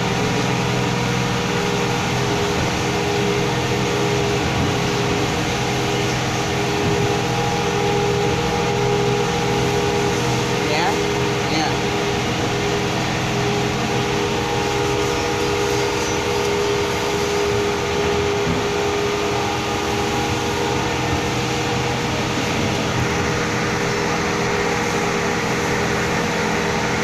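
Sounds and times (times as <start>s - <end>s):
mechanical drone: 0.0s - 27.0s.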